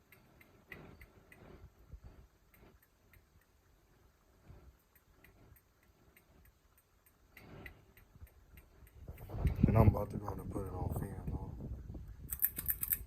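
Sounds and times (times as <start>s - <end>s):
ceiling fan ticking: 0.0s - 11.5s.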